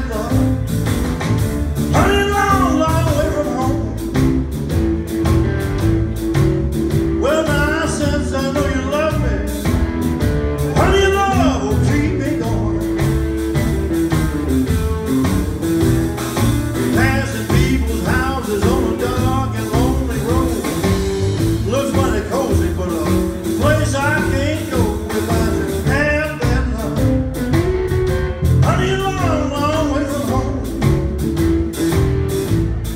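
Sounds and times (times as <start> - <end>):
bass and drum groove: 0.0 - 32.9
bending lead guitar line: 0.0 - 32.9
electric blues band playing: 0.0 - 32.9.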